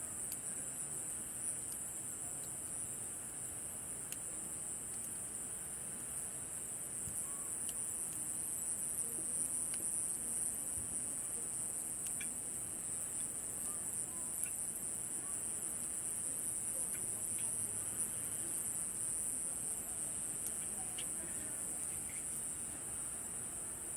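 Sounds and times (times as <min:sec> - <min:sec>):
night insects trilling: 0:00.0 - 0:23.9.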